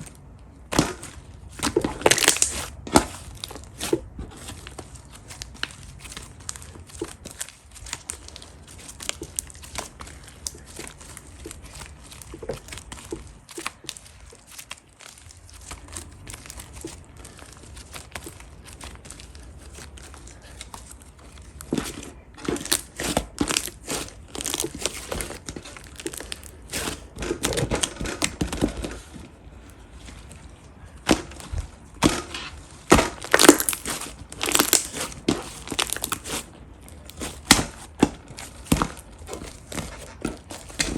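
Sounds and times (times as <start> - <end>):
hands squishing slime: 0.0 - 40.9.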